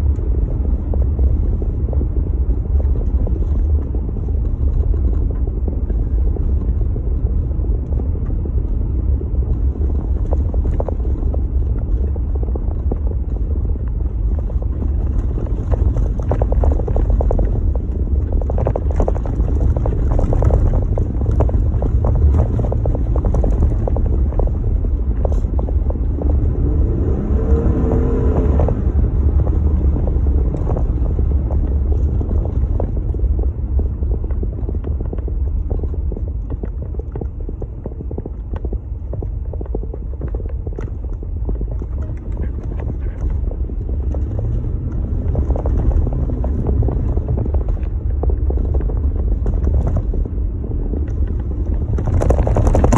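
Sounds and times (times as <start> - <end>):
engine and tyres rumbling: 0.0 - 52.9
wind: 0.0 - 52.9.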